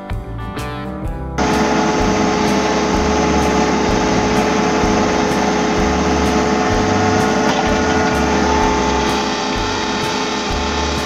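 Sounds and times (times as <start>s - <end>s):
constant whine: 1.4s - 11.0s
heavy diesel machinery running: 1.4s - 11.0s.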